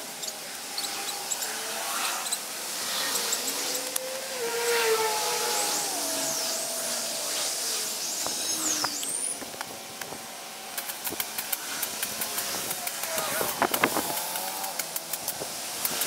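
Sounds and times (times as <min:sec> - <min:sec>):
distant motor whine: 0:00.0 - 0:15.6
steady high hiss: 0:00.0 - 0:16.0.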